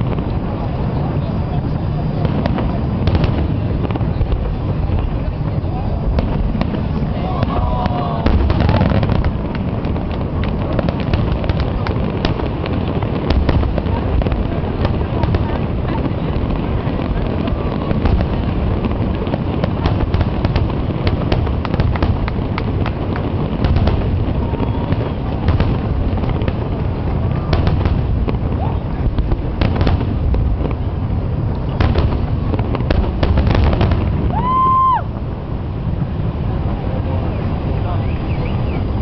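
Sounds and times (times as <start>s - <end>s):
firework whistle: 0.0s - 35.4s, 37.1s - 39.0s
fireworks bangs and crackles: 0.0s - 39.0s.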